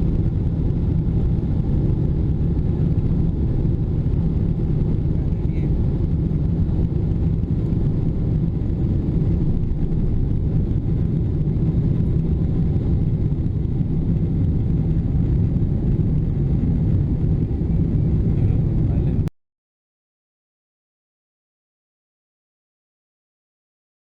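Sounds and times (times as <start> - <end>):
airplane cabin engine rumble: 0.0 - 19.3.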